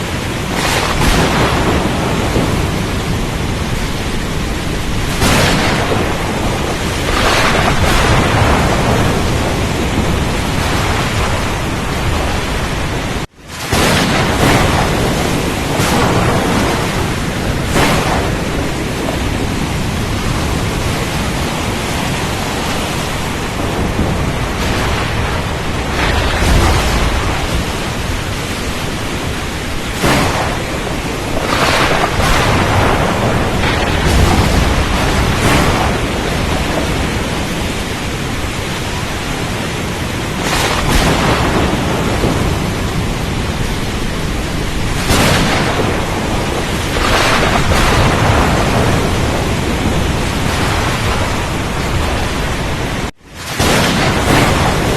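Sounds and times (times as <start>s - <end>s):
rain and wind rushing: 0.0s - 54.9s
thunder rumbling: 0.0s - 54.9s.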